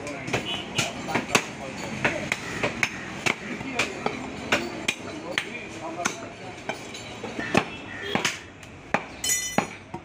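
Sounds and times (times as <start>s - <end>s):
cleaver chopping on wooden block: 0.3s - 6.2s, 7.3s - 10.0s.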